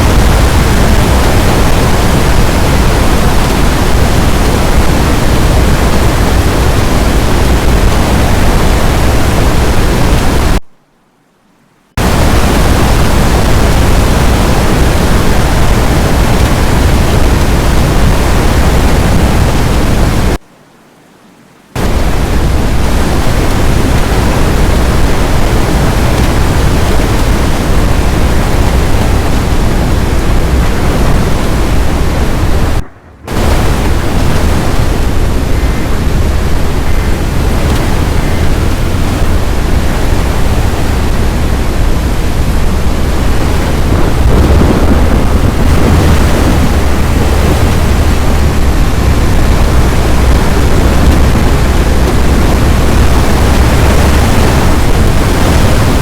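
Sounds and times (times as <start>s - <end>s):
strong wind buffeting microphone: 0.0s - 10.6s, 12.0s - 20.4s, 21.7s - 56.0s.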